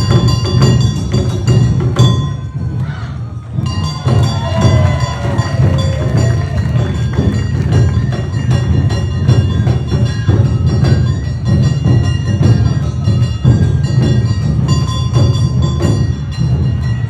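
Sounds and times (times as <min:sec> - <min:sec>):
taiko drums beating: 0:00.0 - 0:02.8, 0:03.5 - 0:17.0.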